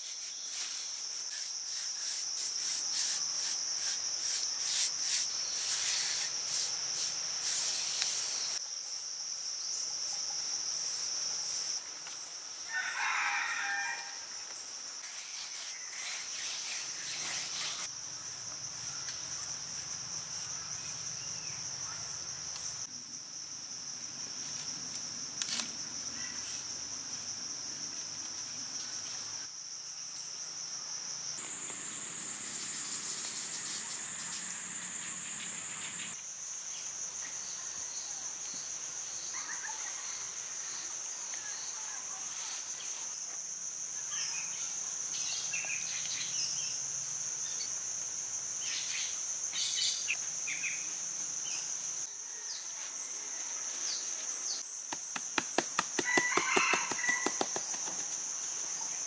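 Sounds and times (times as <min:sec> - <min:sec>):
high-pitched insect drone: 0:00.0 - 0:54.8.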